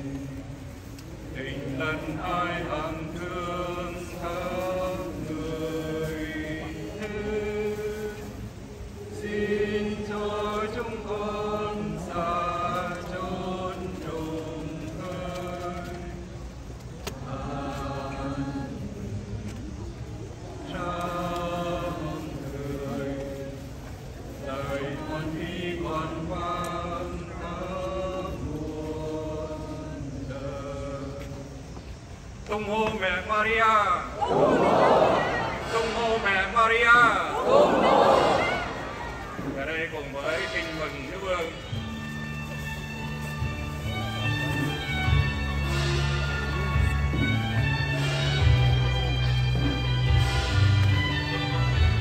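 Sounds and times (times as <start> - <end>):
group chanting a hymn: 0.0 - 52.0.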